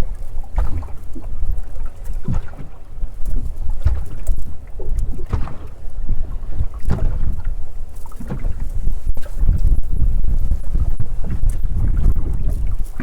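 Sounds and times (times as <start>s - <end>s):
boat engine low rumble: 0.0s - 13.0s
hull thudding on water: 0.0s - 13.0s
wind buffeting microphone: 0.0s - 13.0s.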